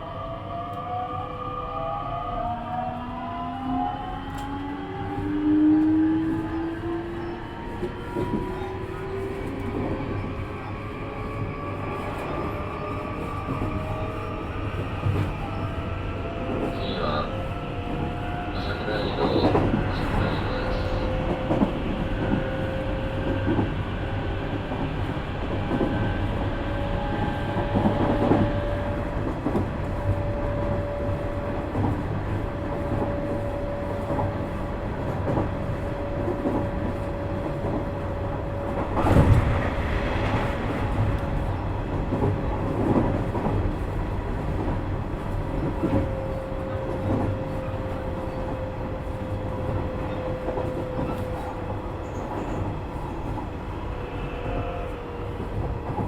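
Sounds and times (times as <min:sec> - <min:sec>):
electric train rumble: 0:00.0 - 0:56.0.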